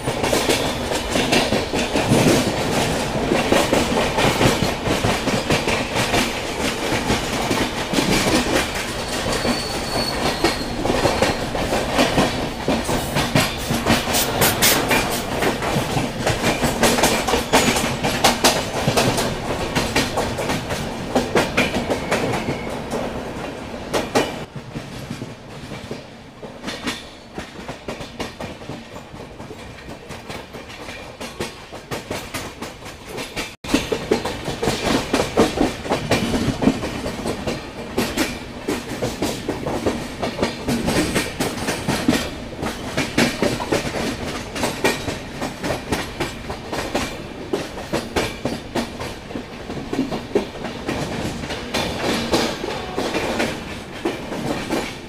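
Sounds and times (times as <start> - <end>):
train wheels clattering over rail joints: 0.0 - 55.0.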